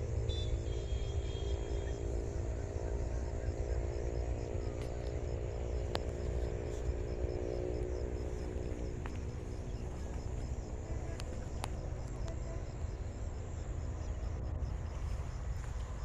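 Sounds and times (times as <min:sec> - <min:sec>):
faint insect chirping: 0:00.0 - 0:16.0
steady low rumble: 0:00.0 - 0:16.0.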